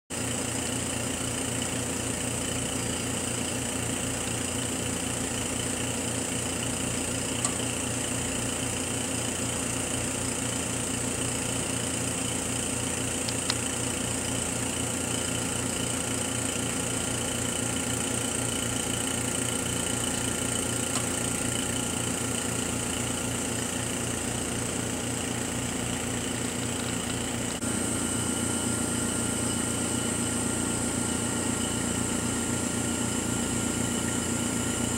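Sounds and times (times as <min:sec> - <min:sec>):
machine humming with fast pulsing: 0:00.2 - 0:34.9.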